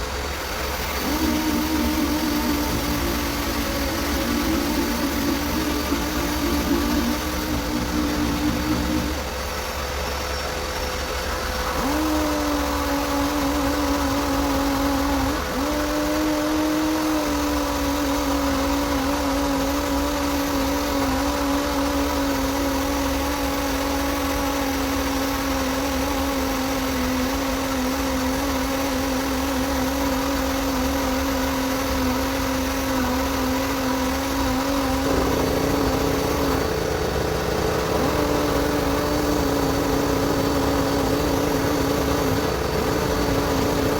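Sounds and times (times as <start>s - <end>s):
motor humming: 0.0s - 43.9s.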